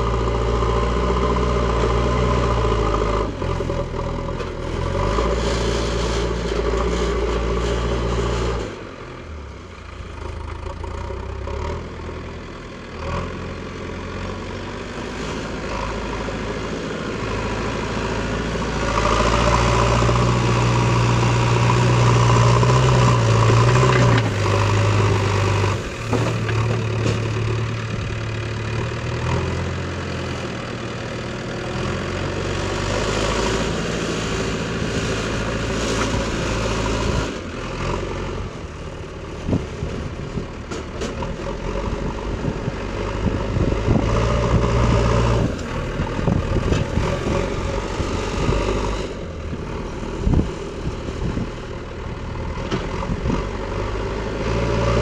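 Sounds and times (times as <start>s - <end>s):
diesel engine working: 0.0s - 55.0s.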